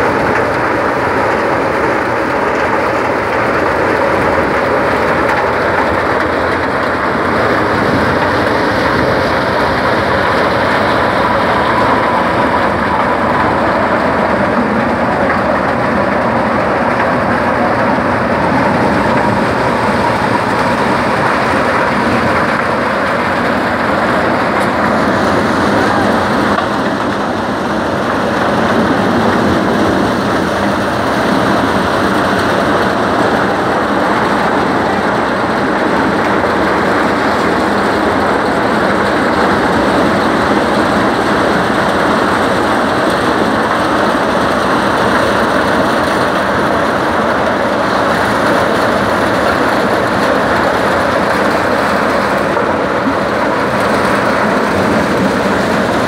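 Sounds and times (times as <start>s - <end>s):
tractor diesel engine: 0.0s - 56.0s.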